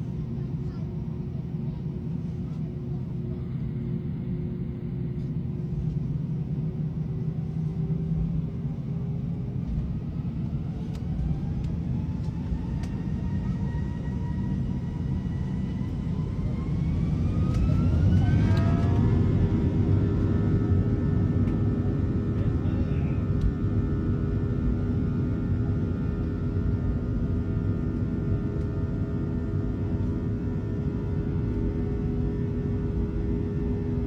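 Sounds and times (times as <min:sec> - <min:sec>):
jet engine rumble in cabin: 0:00.0 - 0:34.0
jet engine whine rising in pitch: 0:06.1 - 0:34.0.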